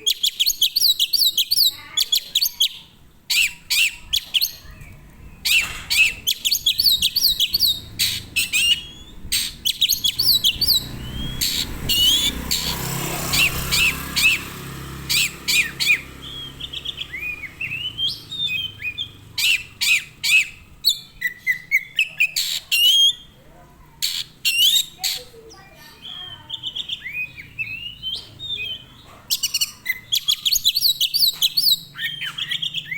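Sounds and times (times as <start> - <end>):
songbird chirping and trilling: 0.0 - 32.9.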